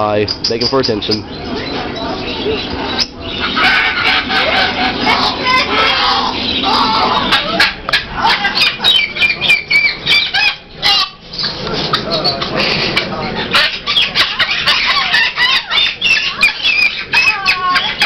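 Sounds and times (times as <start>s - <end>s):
parrots squawking and chattering: 0.0s - 18.0s.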